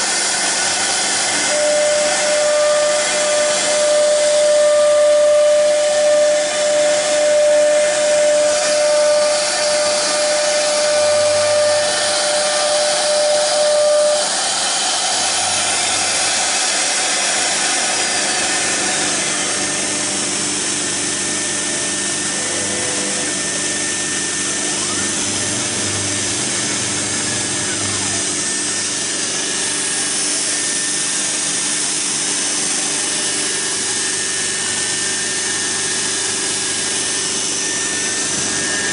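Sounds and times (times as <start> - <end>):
router bit cutting wood hiss: 0.0 - 38.9
router spindle high whine: 0.0 - 38.9.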